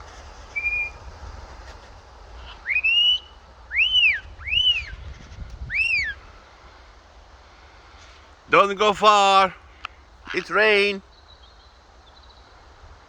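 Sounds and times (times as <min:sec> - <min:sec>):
kites whistling calls: 0:00.0 - 0:01.8, 0:02.4 - 0:06.9, 0:08.0 - 0:12.4
wind rumbling: 0:00.0 - 0:13.0.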